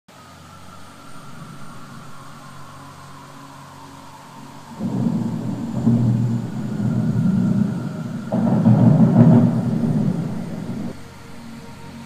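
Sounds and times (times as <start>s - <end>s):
thunder rumbling: 0.6s - 12.0s.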